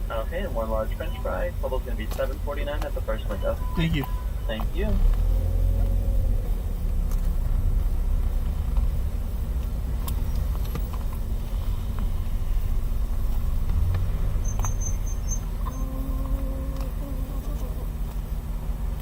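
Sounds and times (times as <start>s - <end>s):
car engine rumble from inside: 0.0s - 19.0s.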